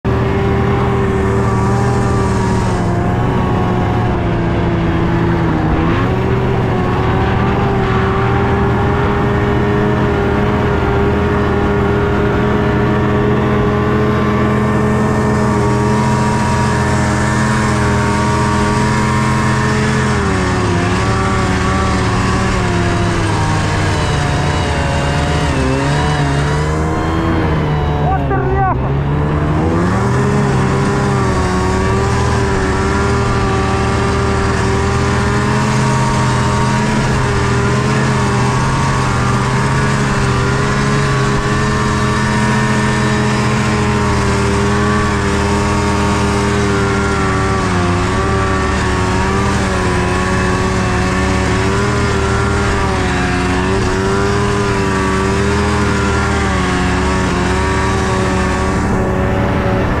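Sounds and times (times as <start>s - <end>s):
vehicle engine running: 0.0s - 60.0s.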